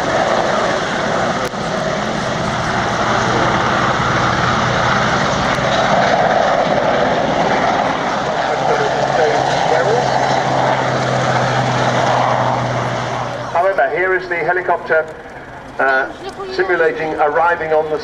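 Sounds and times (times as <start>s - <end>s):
radial plane engine in flight: 0.0s - 18.0s.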